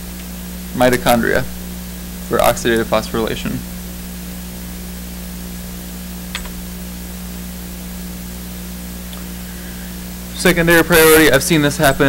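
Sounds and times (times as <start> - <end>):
low electrical hum: 0.0 - 12.0
microphone hiss: 0.0 - 12.0.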